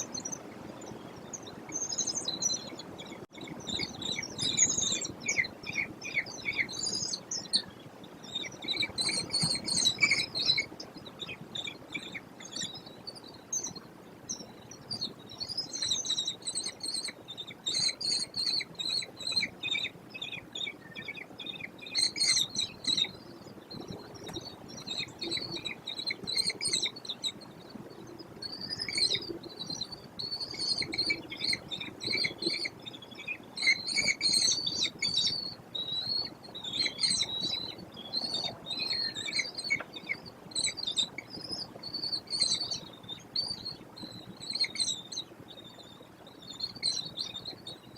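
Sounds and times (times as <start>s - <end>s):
kestrels calling: 0.0s - 47.8s.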